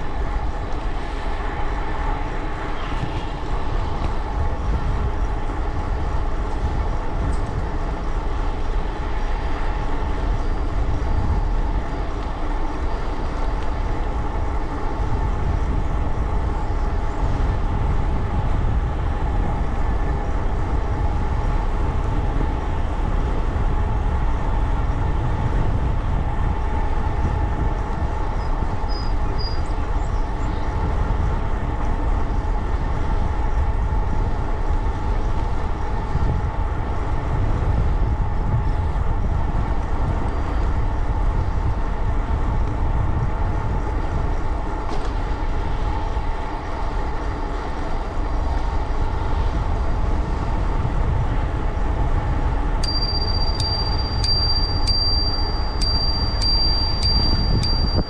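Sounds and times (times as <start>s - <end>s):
thin whine: 0.0s - 58.0s
wind rushing over microphone: 0.0s - 58.0s.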